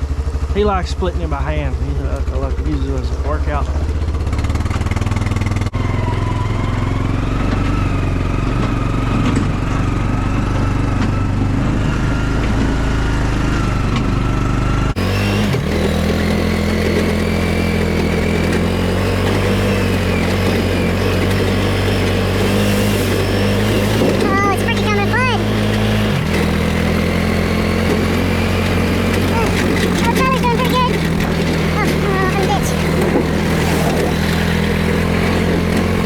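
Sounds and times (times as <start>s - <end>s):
log splitter engine running: 0.0s - 36.0s.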